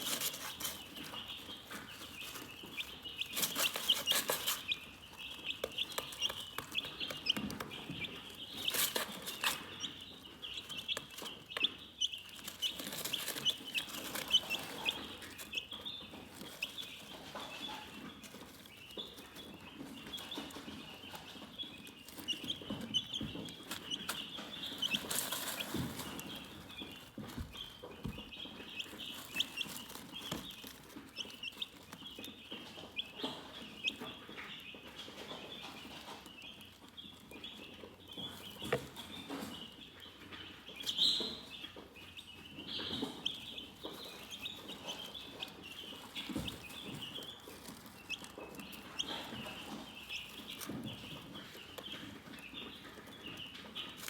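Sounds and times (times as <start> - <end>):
chickens chirping: 0.0 - 54.0.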